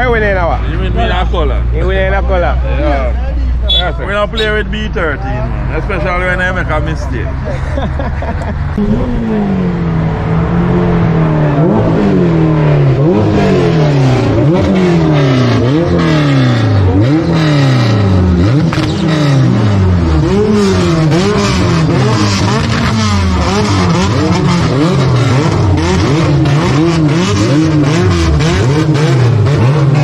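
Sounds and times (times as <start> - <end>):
car engine revving: 4.0 - 30.0.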